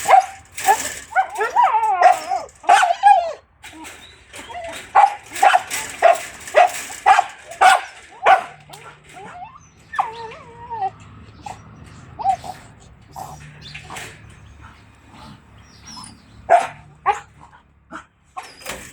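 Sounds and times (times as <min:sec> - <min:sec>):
dogs barking: 0:00.0 - 0:18.9
dogs whining: 0:00.0 - 0:18.9.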